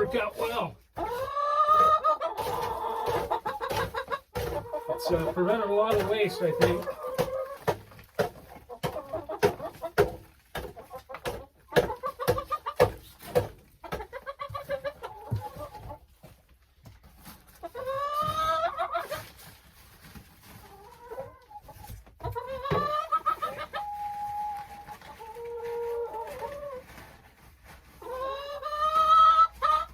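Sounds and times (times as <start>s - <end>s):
hens clucking: 0.0s - 29.9s.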